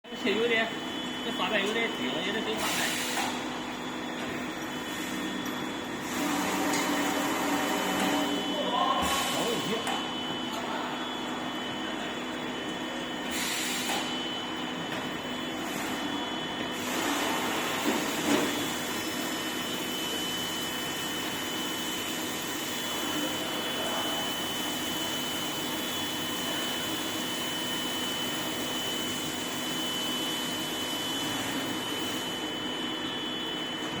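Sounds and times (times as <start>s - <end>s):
milling machine running: 0.1s - 34.0s.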